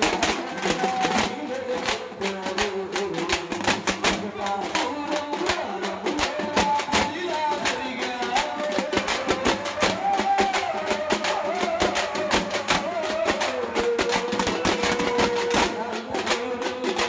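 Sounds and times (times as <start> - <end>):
frame drums beaten with sticks: 0.0 - 17.0.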